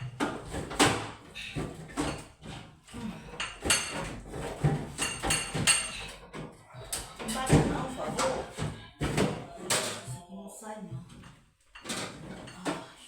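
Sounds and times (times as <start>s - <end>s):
dishes clinking and clattering: 0.0s - 10.2s, 11.0s - 13.0s.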